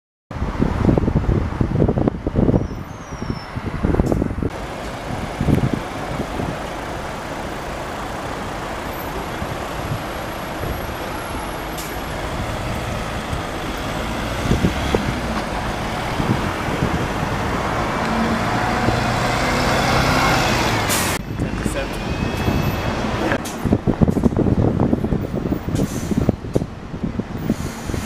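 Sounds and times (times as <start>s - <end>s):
street traffic noise: 0.3s - 28.0s
bus engine driving past: 2.7s - 26.5s.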